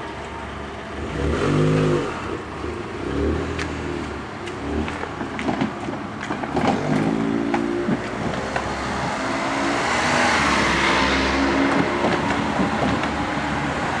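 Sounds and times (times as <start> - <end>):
car passing: 0.9 - 14.0.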